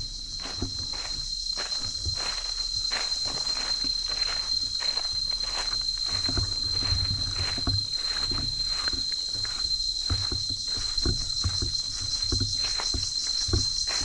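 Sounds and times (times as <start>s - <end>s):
high-pitched insect trill: 0.0s - 14.0s
pulsing insect chirr: 0.0s - 14.0s
footsteps on dry leaves: 0.2s - 14.0s.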